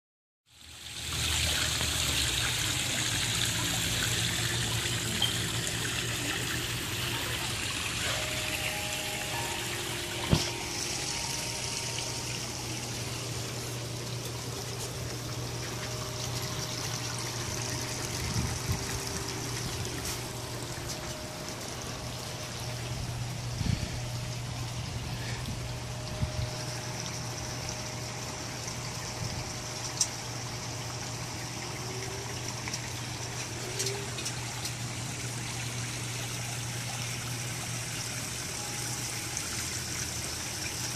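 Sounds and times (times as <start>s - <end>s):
water trickling over rocks: 0.5s - 40.9s
low hum: 1.4s - 40.6s.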